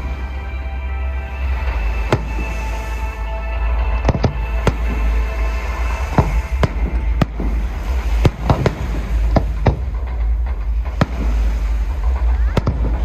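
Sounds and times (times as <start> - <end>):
fireworks bursting: 0.0 - 13.0
low rumble: 0.0 - 13.0.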